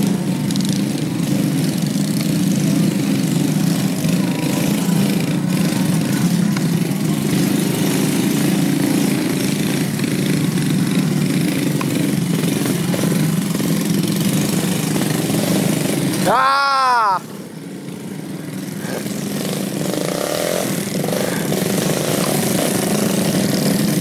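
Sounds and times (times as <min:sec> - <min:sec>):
dirt bike engines running: 0:00.0 - 0:24.0.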